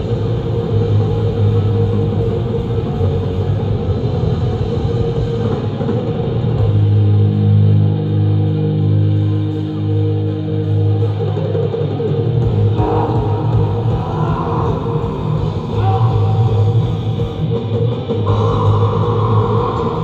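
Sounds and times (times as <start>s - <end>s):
distorted guitar chord ringing: 0.0s - 20.0s
metal band playing live: 0.0s - 20.0s.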